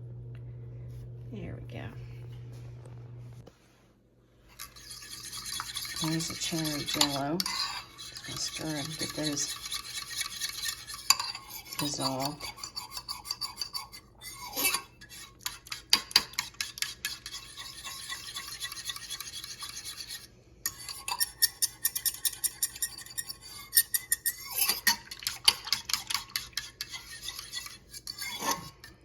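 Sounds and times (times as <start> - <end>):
spoon stirring and clinking in container: 4.5 - 29.0.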